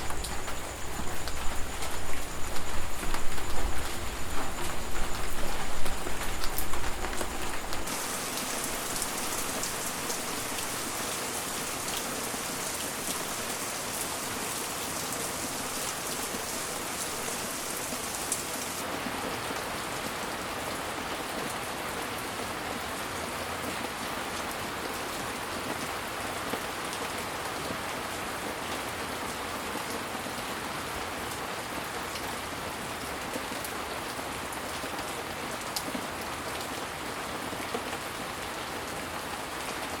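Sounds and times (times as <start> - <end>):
dense rainfall hissing: 0.0 - 40.0.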